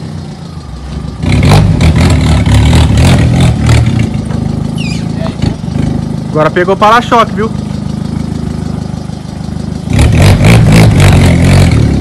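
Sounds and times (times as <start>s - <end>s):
bumper scraping the ground: 0.0s - 12.0s
car engine idling and revving: 0.0s - 12.0s.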